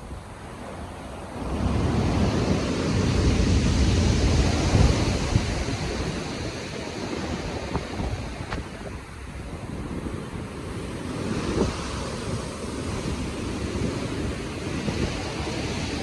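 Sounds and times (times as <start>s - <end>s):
low rumble of wind: 0.0s - 16.0s
sea waves breaking: 0.0s - 16.0s.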